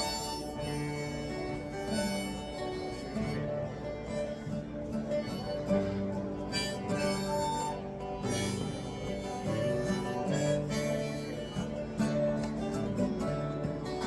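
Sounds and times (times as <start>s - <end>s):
harmonica sustained notes: 0.0s - 14.0s
strummed acoustic guitar: 0.0s - 14.0s.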